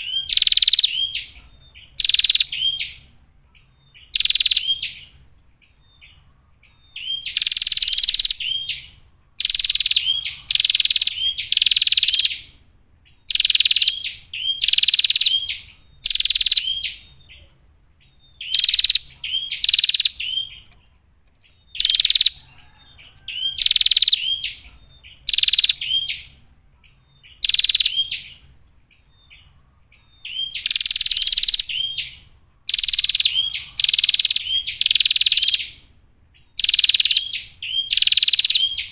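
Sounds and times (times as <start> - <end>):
bird harsh rasping calls: 0.0 - 5.2, 6.0 - 12.6, 13.2 - 20.9, 21.6 - 28.6, 29.3 - 38.9.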